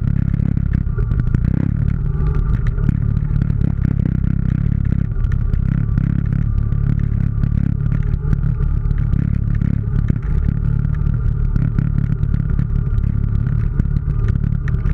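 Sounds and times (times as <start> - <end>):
atv engine running under load: 0.0 - 14.9.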